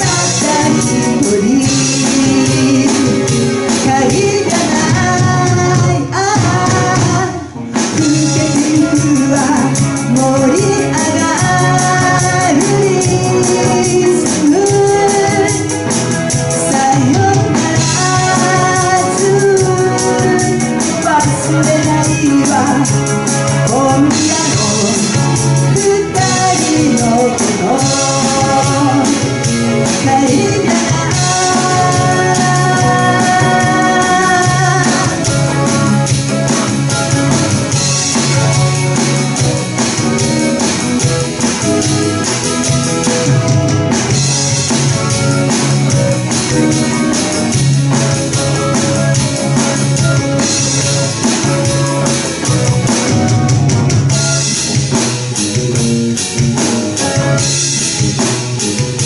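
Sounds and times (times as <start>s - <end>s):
bass: 0.0s - 59.0s
drum kit: 0.0s - 59.0s
keyboard: 0.0s - 59.0s
person singing lead vocals: 0.0s - 59.0s.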